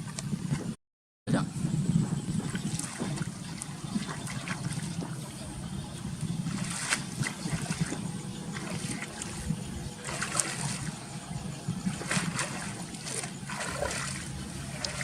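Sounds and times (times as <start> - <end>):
water splashing and sloshing: 1.9 - 15.0.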